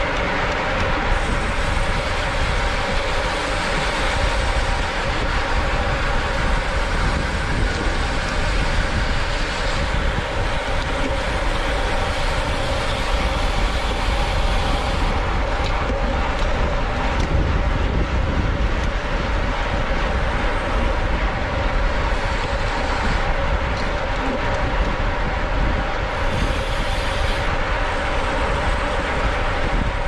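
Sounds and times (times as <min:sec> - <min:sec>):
bike tyres rolling on road: 0:00.0 - 0:30.0
wind buffeting microphone: 0:00.0 - 0:30.0.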